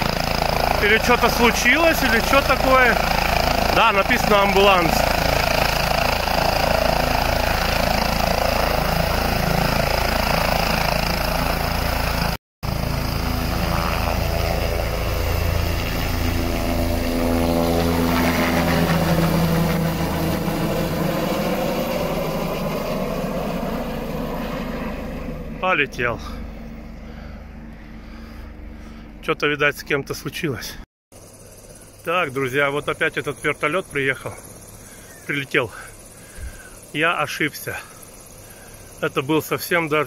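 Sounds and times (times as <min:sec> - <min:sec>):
helicopter rotor and engine: 0:00.0 - 0:40.0.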